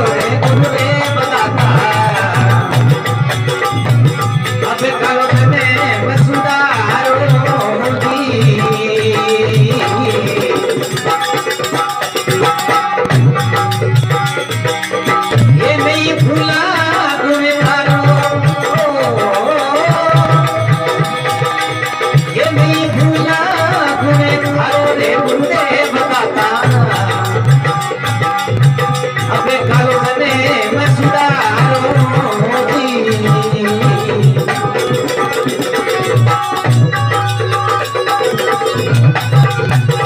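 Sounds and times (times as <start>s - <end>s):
hand drum beat: 0.0s - 40.0s
ornamented lead melody: 0.0s - 40.0s
rattling percussion: 0.0s - 40.0s.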